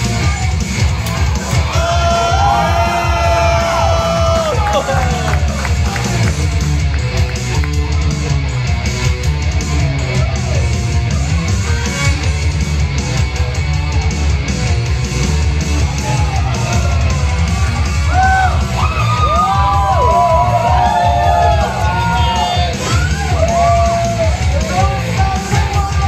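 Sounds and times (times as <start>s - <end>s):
rock music with electric guitar: 0.0s - 26.0s.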